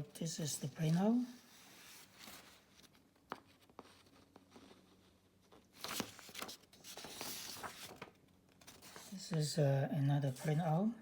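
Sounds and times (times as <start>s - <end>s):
paper rustling: 0.4s - 9.5s.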